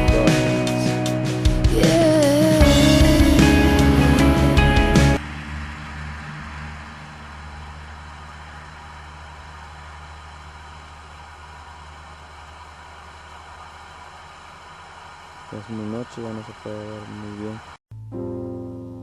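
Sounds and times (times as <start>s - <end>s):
steady low hum: 1.6s - 17.8s.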